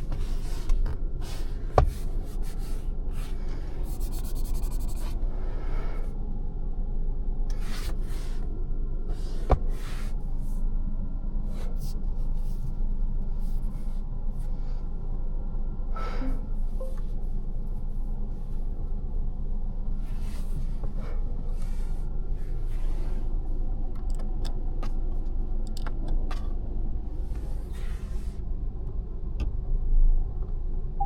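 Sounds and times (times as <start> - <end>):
low rumble inside car cabin: 0.0 - 31.0.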